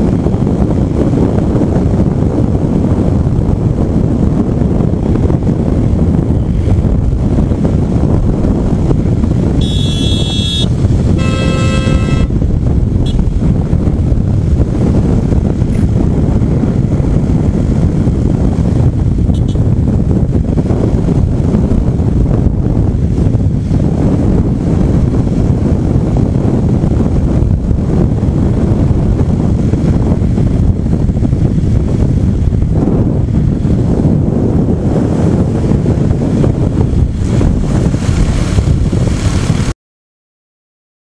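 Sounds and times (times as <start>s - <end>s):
wind buffeting microphone: 0.0s - 39.7s.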